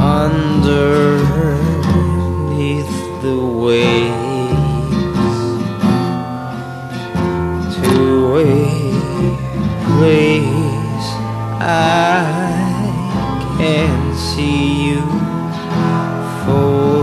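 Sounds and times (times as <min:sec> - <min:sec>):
person singing long wavering notes: 0:00.0 - 0:17.0
strummed acoustic guitar: 0:00.0 - 0:17.0.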